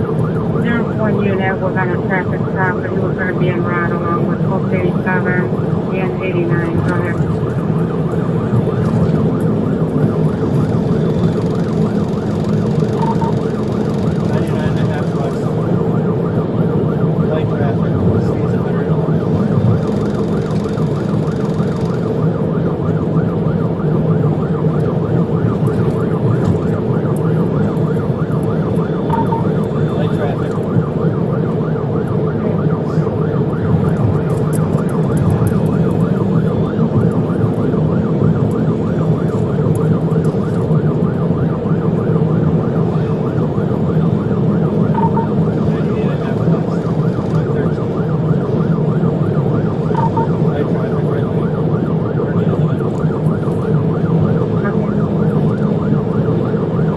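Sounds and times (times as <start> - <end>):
car engine and road noise: 0.0 - 56.9
police siren yelping: 0.0 - 56.9.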